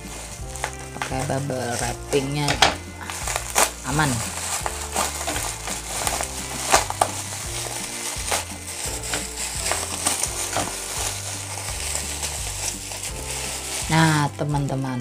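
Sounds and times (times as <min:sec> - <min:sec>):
background music with bass line: 0:00.0 - 0:15.0
bubble wrap crinkling and tearing: 0:00.0 - 0:15.0.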